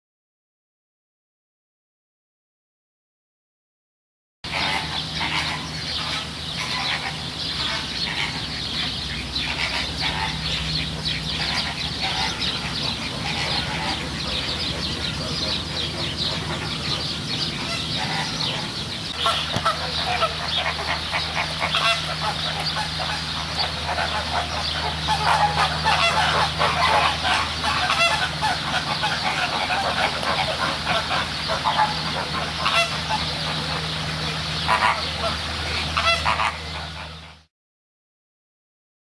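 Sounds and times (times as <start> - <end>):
flamingos honking: 4.5 - 37.5.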